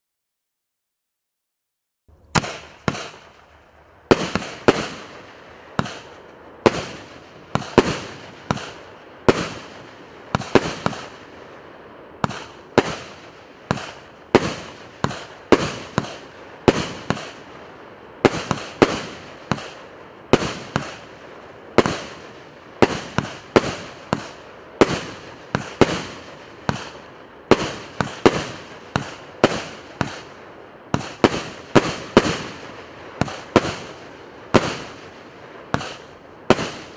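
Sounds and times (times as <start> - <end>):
firework bangs: 2.1 - 36.9.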